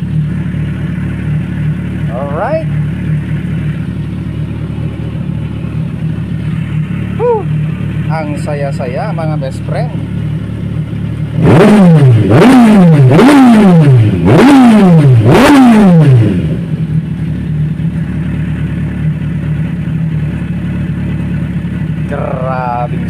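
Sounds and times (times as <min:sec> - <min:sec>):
motorcycle engine idling: 0:00.0 - 0:13.1, 0:16.1 - 0:23.0
motorcycle engine revving: 0:00.0 - 0:23.0.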